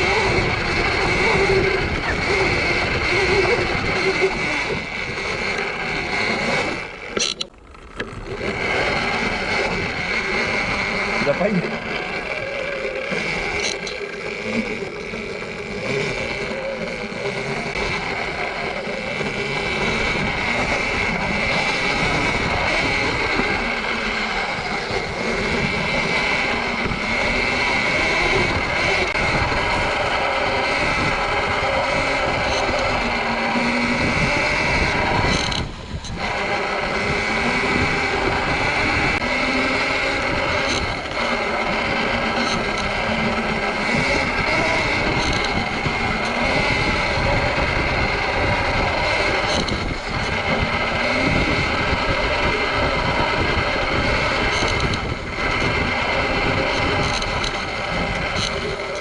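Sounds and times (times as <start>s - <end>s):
electric motor whine: 0.0s - 59.0s
tyre and wind noise: 0.0s - 59.0s.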